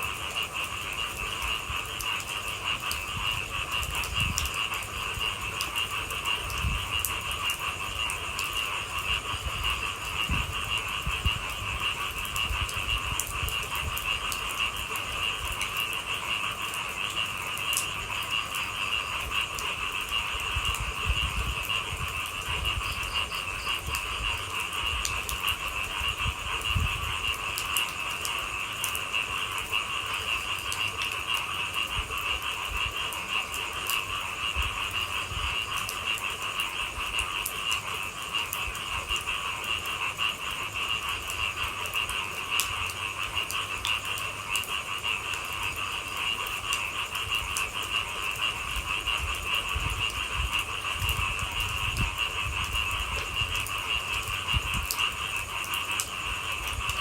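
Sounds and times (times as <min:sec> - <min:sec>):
frogs calling: 0:00.0 - 0:57.0.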